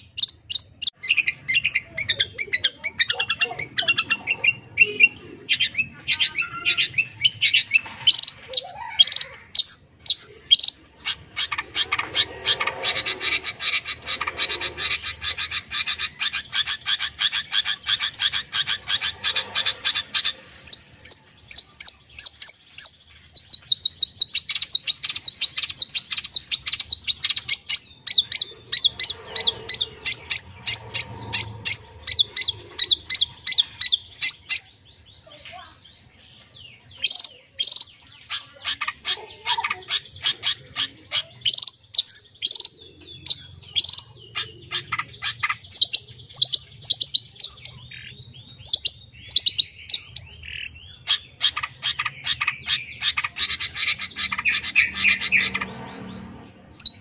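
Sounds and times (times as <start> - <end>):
bird chattering: 0.0 - 57.0.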